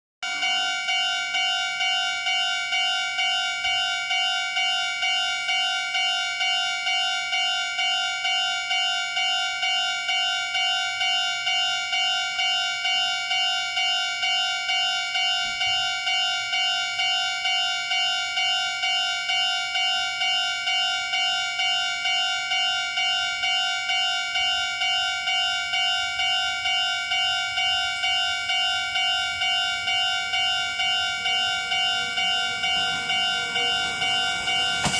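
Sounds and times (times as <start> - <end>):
level crossing warning bell: 0.2 - 34.9.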